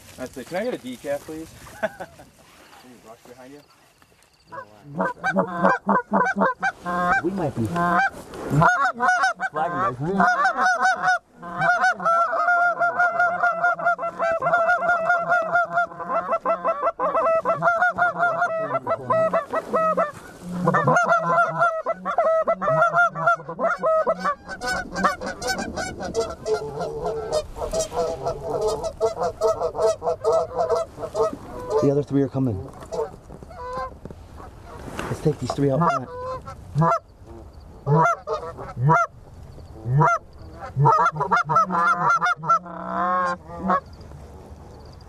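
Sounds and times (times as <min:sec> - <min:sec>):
goose calls honking and clucking: 0:04.5 - 0:32.0, 0:32.7 - 0:39.1, 0:39.8 - 0:43.9.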